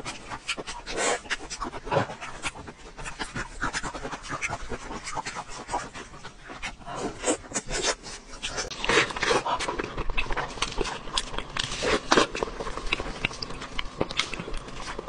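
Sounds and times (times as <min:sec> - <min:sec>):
chewing and lip smacking: 0:00.1 - 0:15.0.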